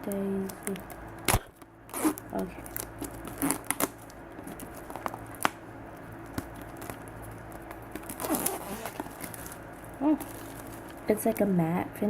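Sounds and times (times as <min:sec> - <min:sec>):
packaging clicks and rustles: 0:00.1 - 0:11.1.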